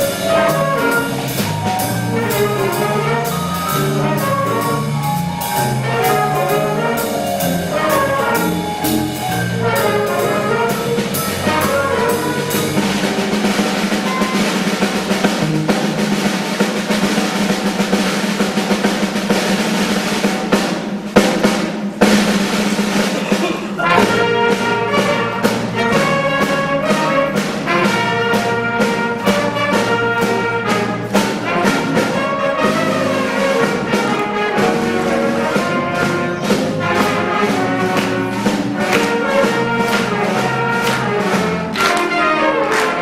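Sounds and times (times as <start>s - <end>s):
concert band playing: 0.0s - 43.0s
snare drum roll: 0.0s - 43.0s.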